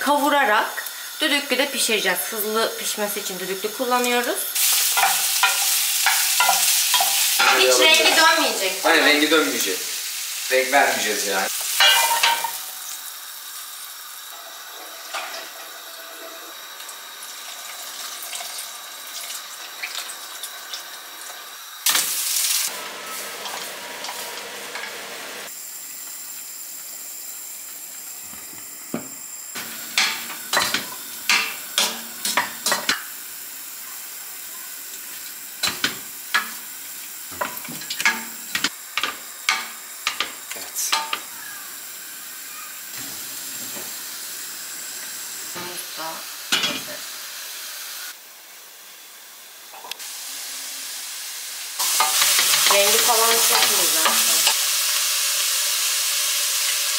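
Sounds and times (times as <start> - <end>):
vegetables sizzling in oil: 0.0 - 56.9.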